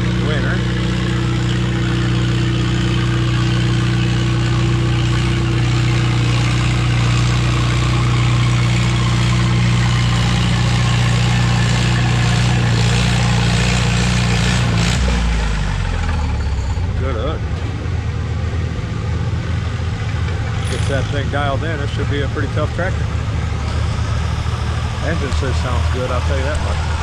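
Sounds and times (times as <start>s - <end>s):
tractor engine running under load: 0.0s - 27.0s.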